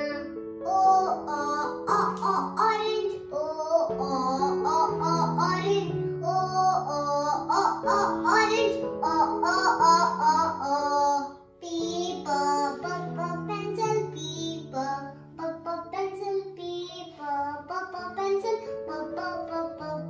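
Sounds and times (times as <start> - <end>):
child singing: 0.0 - 20.0
light instrumental backing: 0.0 - 20.0.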